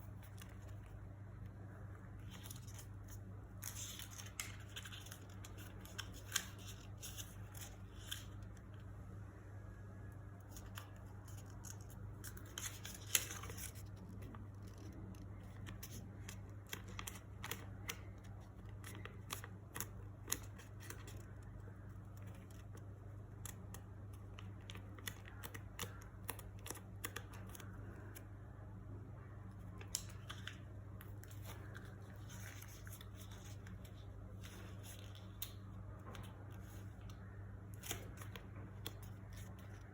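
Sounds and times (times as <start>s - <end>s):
steady low hum: 0.0s - 39.9s
paper being folded and creased: 2.1s - 8.7s, 10.5s - 28.3s, 29.7s - 39.9s.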